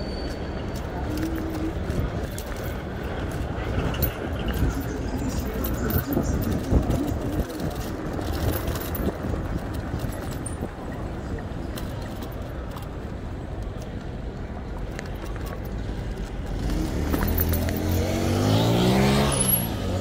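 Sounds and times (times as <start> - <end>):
rumble of passing vehicles: 0.0 - 20.0
light clicks and rattles: 0.8 - 18.0.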